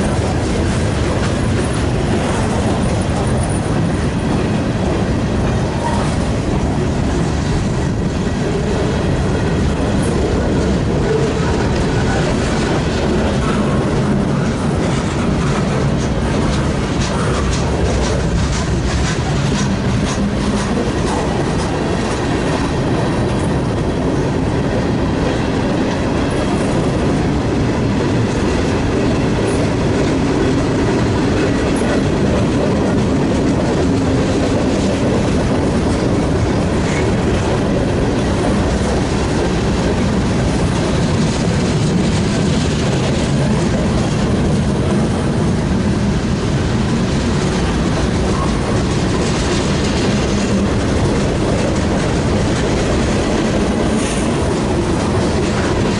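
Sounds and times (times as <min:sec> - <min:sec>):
freight train wheels clacking: 0:00.0 - 0:55.9.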